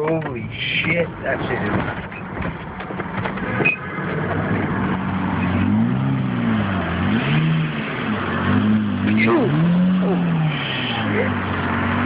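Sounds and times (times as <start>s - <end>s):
car engine revving: 0.4s - 12.0s.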